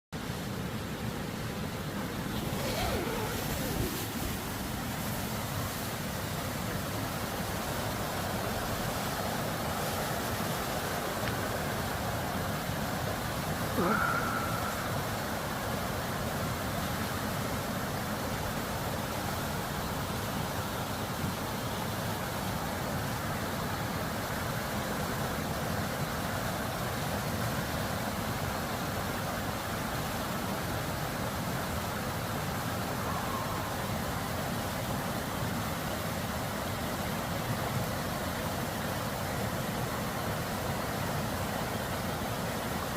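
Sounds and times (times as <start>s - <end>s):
stream water flowing: 0.2s - 42.9s.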